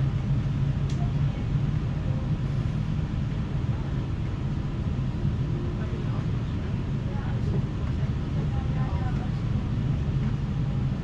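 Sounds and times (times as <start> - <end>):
electric train hum and rumble: 0.0 - 11.0.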